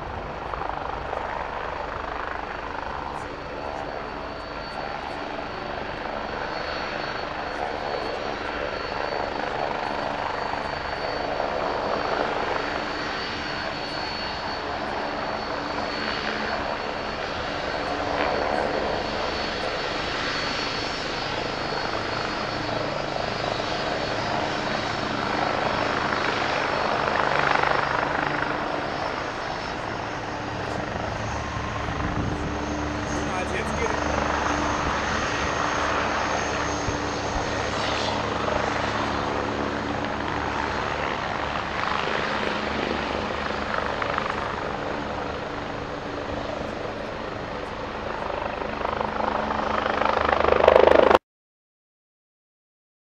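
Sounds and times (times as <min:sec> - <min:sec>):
jet engines turbine whine: 0:00.0 - 0:51.2.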